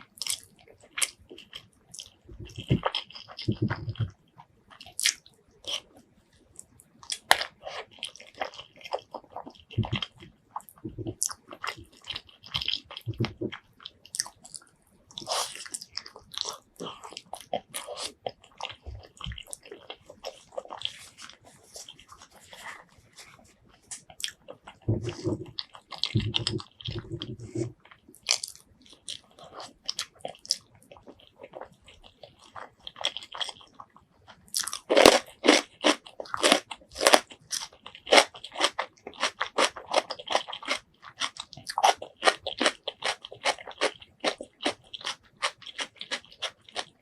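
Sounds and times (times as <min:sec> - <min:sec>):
wet chewing with mouth clicks: 0:00.1 - 0:47.0.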